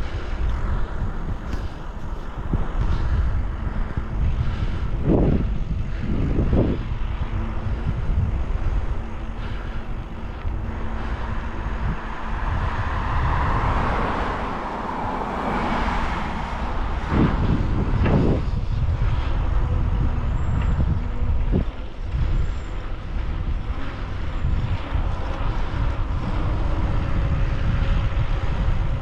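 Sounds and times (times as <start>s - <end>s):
engine passing: 0.0s - 29.0s
wind buffeting microphone: 0.0s - 29.0s.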